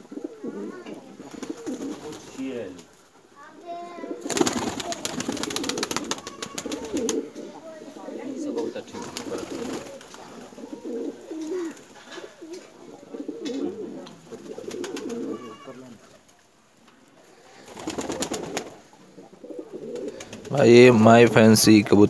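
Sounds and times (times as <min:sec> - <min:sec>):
pigeons cooing: 0:00.0 - 0:16.3, 0:17.2 - 0:21.3.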